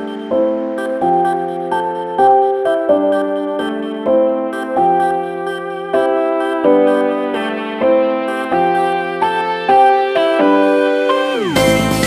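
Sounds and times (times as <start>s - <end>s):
sustained keyboard chords: 0.0s - 12.0s.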